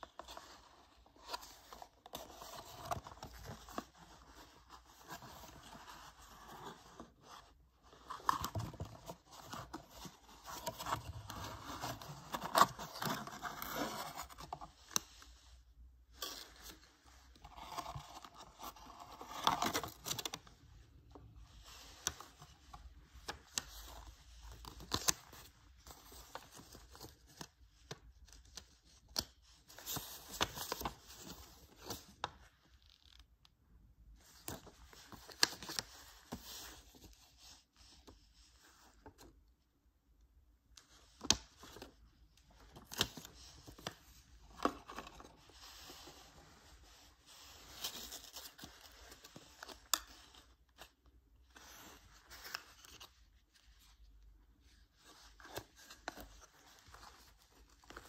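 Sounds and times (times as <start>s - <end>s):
cardboard and paper rustling: 0.0s - 32.8s, 34.2s - 39.4s, 40.8s - 58.0s.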